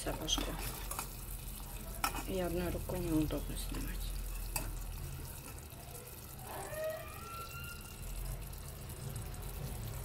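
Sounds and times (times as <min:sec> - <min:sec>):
syrup bubbling in a pot: 0:00.0 - 0:10.0.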